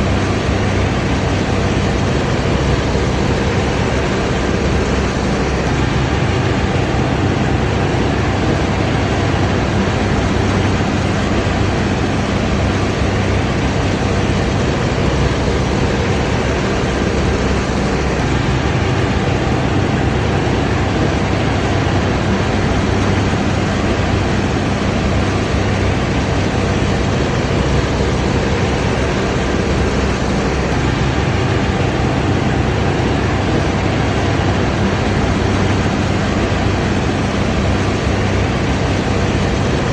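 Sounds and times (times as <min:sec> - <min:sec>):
combine harvester engine and machinery: 0:00.0 - 0:39.9.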